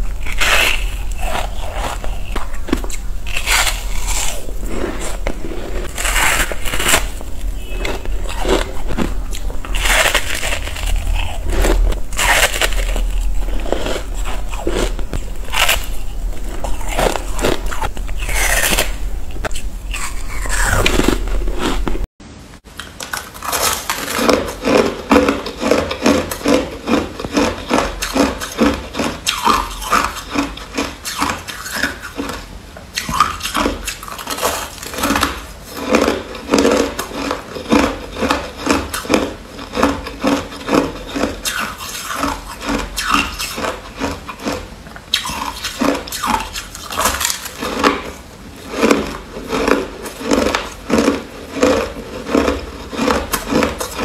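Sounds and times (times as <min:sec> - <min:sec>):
biting and crunching ice: 0:00.0 - 0:22.1, 0:23.2 - 0:32.3, 0:33.0 - 0:54.0.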